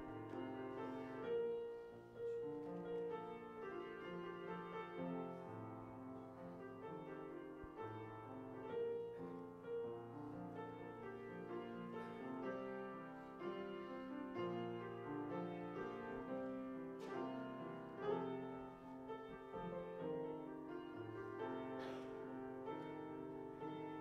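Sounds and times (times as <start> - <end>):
quiet piano music: 0.0 - 24.0.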